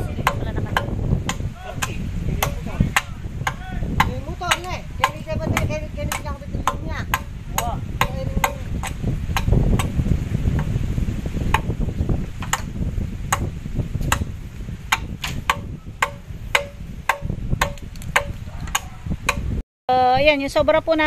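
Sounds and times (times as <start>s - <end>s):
sharp ringing knocks: 0.1s - 10.8s, 11.5s - 11.8s, 12.4s - 19.6s.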